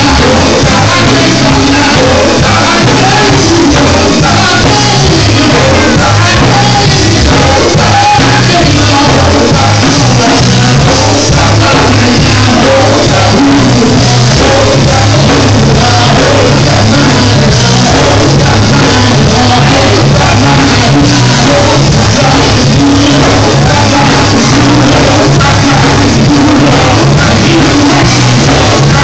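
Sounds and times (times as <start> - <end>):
background vocals: 0.0 - 29.0
steady bass line: 0.0 - 29.0.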